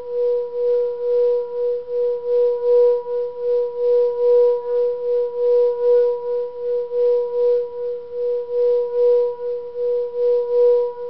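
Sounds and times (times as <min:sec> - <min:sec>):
singing bowl ringing tone: 0:00.0 - 0:11.0.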